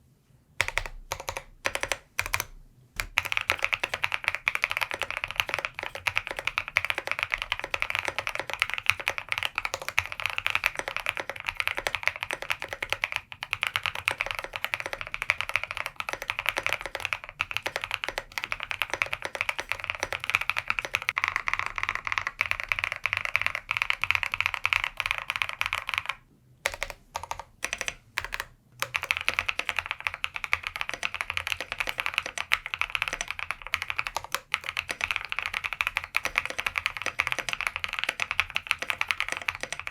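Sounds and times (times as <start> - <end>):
typing on mechanical keyboard: 0.6 - 39.9.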